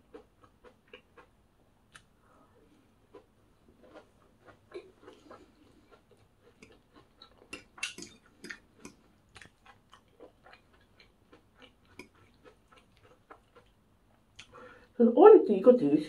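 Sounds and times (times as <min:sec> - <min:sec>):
chewing crunchy food: 0:00.0 - 0:14.6.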